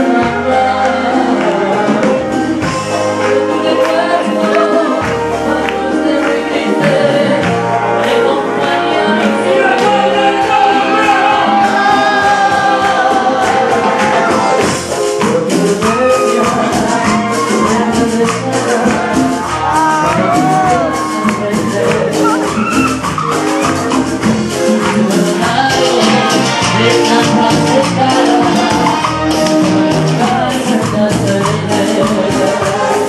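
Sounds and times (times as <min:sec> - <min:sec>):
drums and percussion: 0:00.0 - 0:33.0
person singing: 0:00.0 - 0:33.0.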